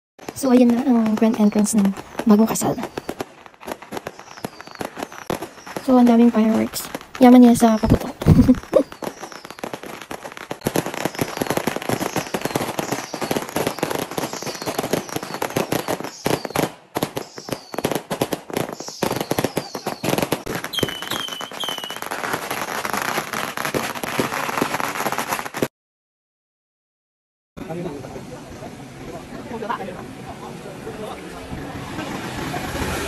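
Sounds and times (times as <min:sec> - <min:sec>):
firecrackers crackling: 0:00.2 - 0:25.7, 0:31.1 - 0:33.0.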